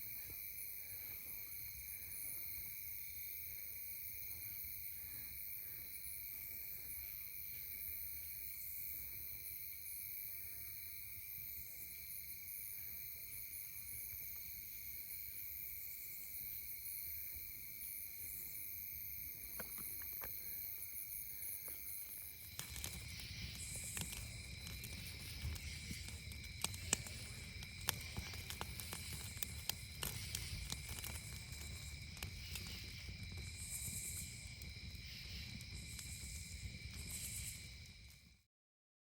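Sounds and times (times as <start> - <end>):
crickets trilling: 0.0 - 38.4.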